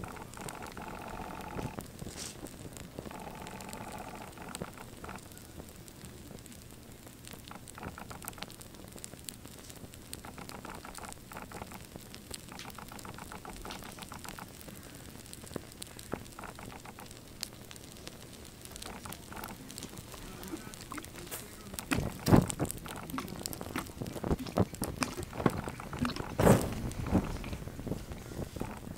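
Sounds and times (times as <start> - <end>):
flames crackling: 0.0 - 28.9.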